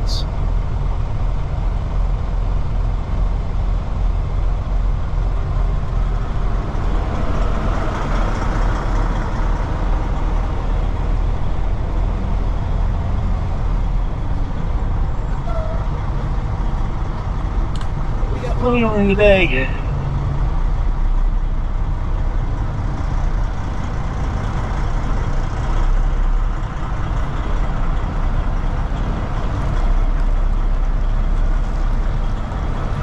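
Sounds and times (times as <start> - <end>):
truck diesel engine rumbling: 0.0 - 33.0.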